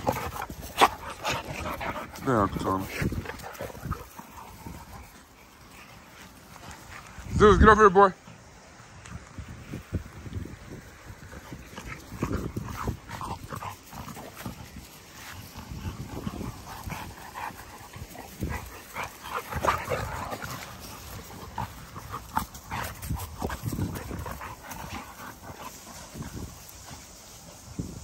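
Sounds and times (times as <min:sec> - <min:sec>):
dogs vocalizing: 0:00.0 - 0:07.1, 0:11.1 - 0:27.2
scuffling on grass: 0:00.0 - 0:07.6, 0:08.2 - 0:28.0.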